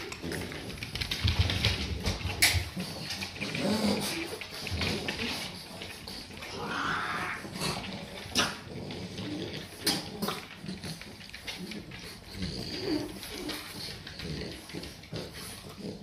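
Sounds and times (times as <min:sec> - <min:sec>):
quiet dog noises: 0:00.0 - 0:16.0.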